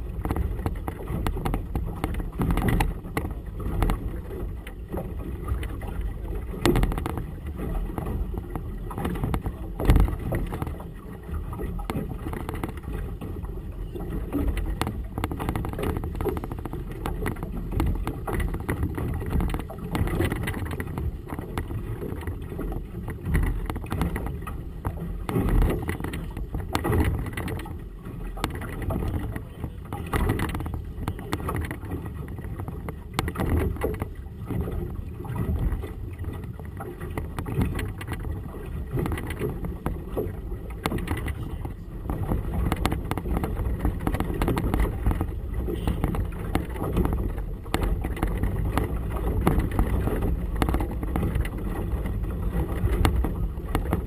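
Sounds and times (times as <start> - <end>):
gusty wind on microphone: 0.0 - 54.0
water splashing around hull: 0.0 - 54.0.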